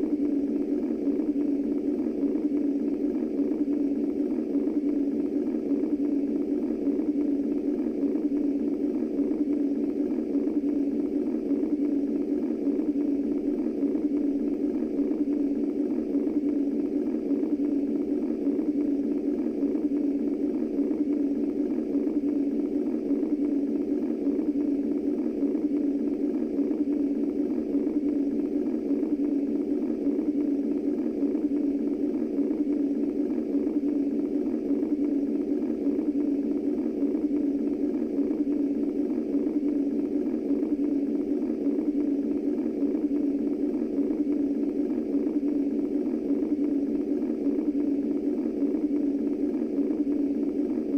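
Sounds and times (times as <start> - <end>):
low steady white noise: 0.0 - 50.9.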